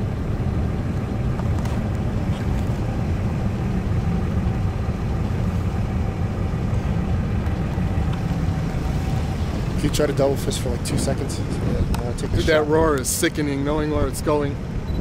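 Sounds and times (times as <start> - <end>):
tornado roaring: 0.0 - 15.0.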